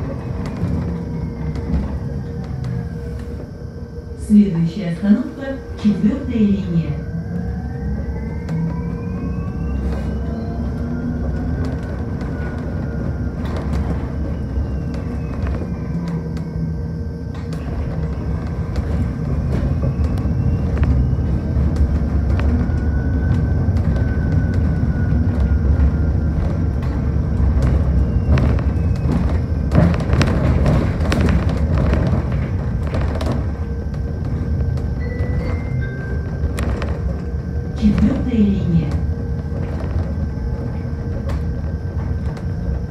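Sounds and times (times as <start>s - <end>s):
bus road and tyre rumble: 0.0s - 42.9s.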